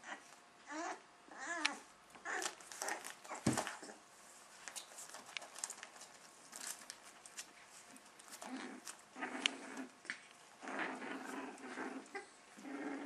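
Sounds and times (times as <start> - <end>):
puppies scuffling on blanket: 1.8 - 13.0.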